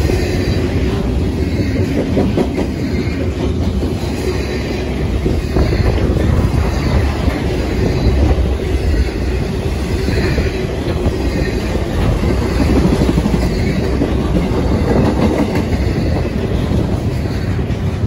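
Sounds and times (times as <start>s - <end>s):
steel wheels rumbling on rails: 0.0s - 18.0s
wheels clicking on track: 0.0s - 18.0s.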